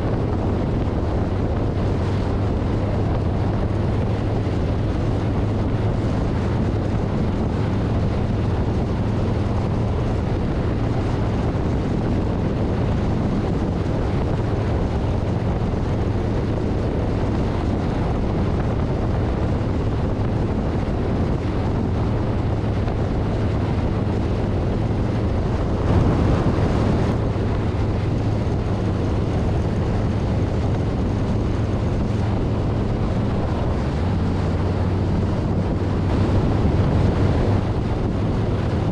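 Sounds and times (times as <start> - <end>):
motorcycle engine droning: 0.0 - 38.9
wind rushing over microphone: 0.0 - 38.9.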